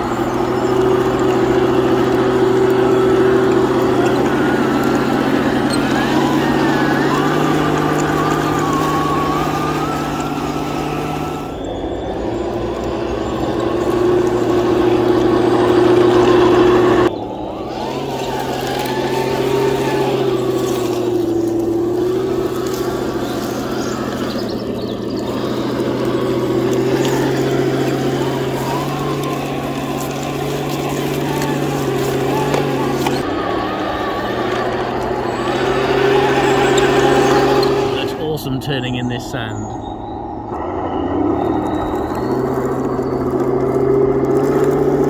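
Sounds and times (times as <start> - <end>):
toy motors and tracks running: 0.0 - 38.4
simulated tank engine drone: 0.0 - 45.0.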